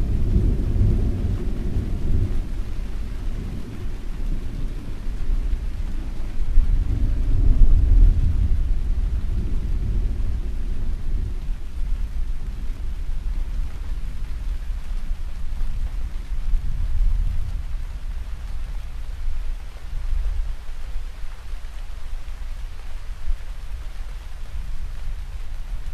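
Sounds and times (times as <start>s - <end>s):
thunder rumbling: 0.0s - 21.0s
steady rain: 0.0s - 25.9s.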